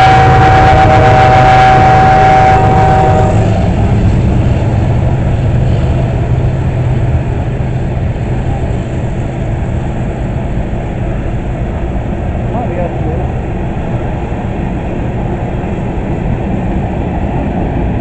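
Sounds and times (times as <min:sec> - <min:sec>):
locomotive whine: 0:00.0 - 0:18.0
train cars rumbling on rails: 0:00.0 - 0:18.0.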